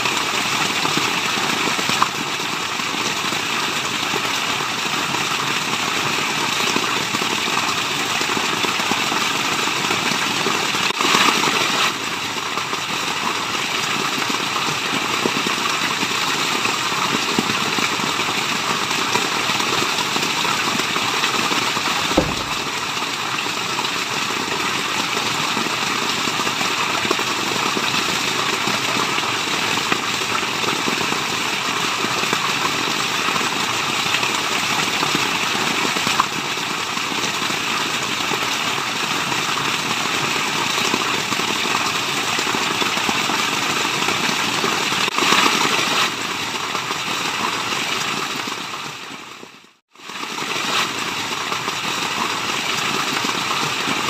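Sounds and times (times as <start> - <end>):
falling water rushing: 0.0 - 49.4, 50.0 - 54.0.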